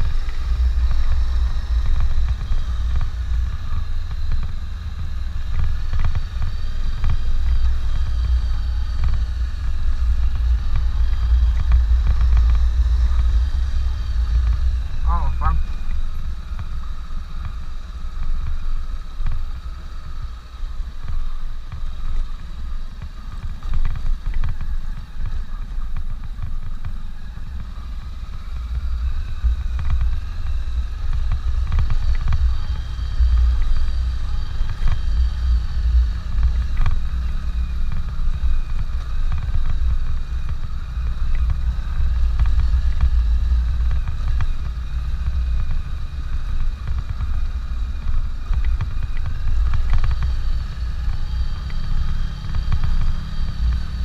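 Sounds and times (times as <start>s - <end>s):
motorcycle engine running: 0.0s - 54.0s
wind rumble on microphone: 0.0s - 54.0s.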